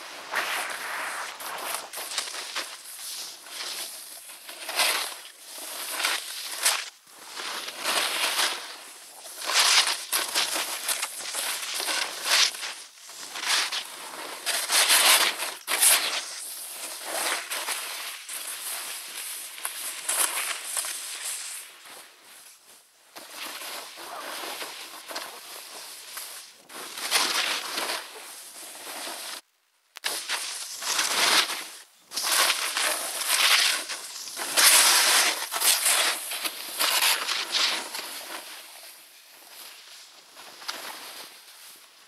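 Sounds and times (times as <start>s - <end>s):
snowboard scraping through snow: 0.0s - 29.4s, 30.1s - 42.0s.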